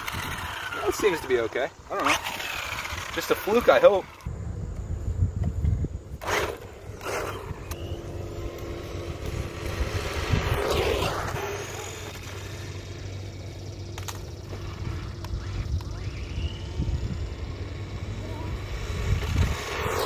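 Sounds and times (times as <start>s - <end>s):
rc truck motor and tyres: 0.0s - 20.0s.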